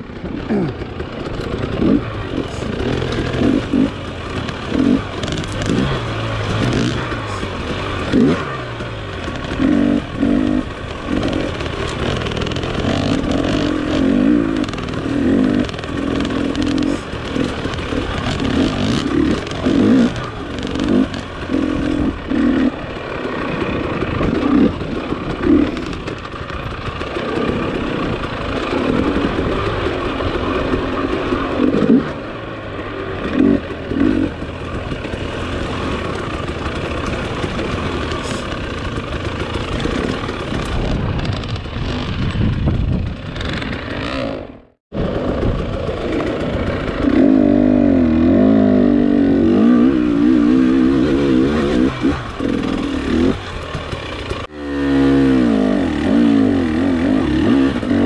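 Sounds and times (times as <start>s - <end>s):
steady rushing noise: 0.0s - 54.8s
dirt bike engine revving: 0.0s - 58.0s.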